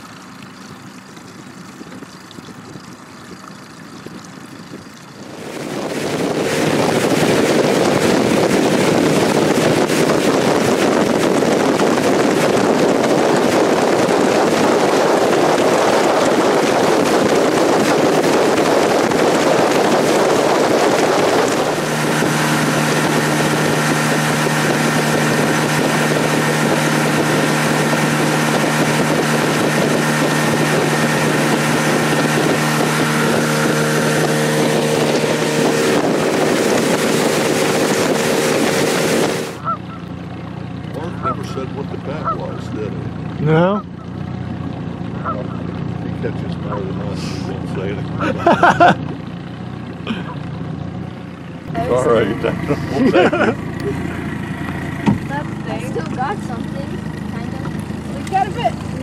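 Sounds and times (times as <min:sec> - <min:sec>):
outboard motor running: 0:00.0 - 0:59.0
rush of wind and water: 0:00.0 - 0:59.0.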